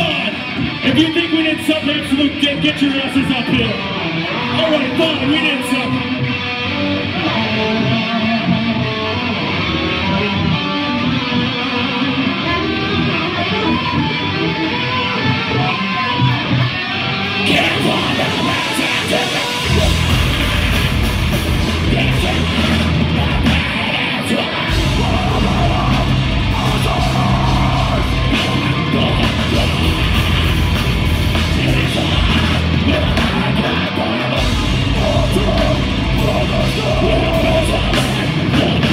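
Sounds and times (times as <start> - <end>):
metal band playing live: 0.0 - 38.9.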